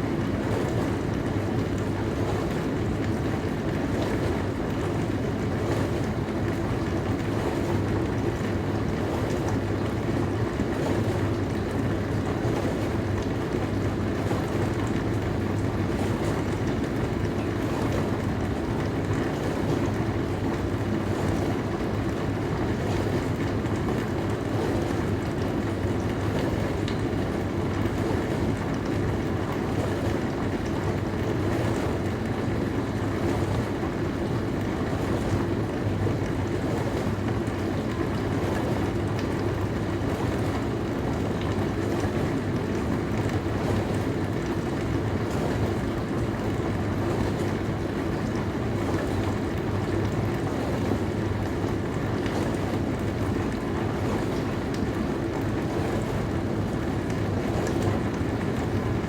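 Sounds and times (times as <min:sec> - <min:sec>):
low pump hum: 0:00.0 - 0:59.0.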